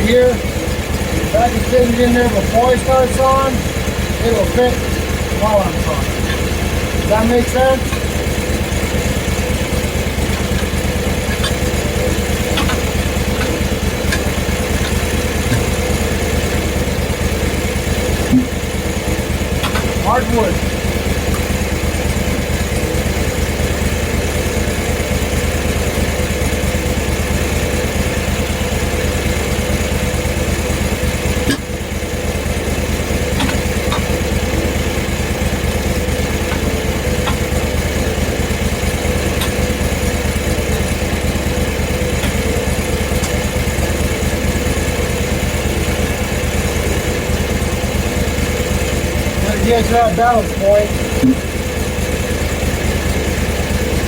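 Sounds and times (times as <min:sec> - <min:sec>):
gasoline engine running: 0:00.0 - 0:54.0.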